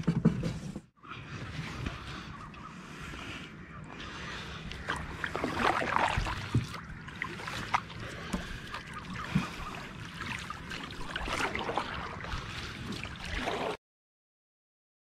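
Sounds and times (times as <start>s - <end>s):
water sloshing around boat: 0.8s - 13.8s.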